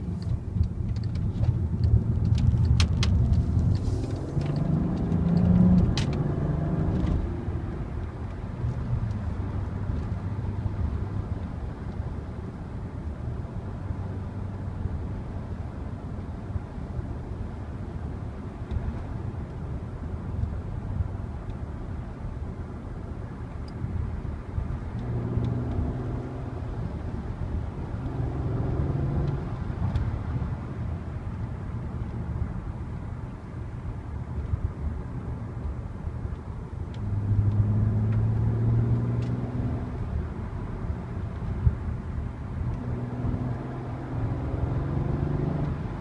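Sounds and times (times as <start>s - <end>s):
car engine while driving: 0.0s - 46.0s
road noise: 0.0s - 46.0s.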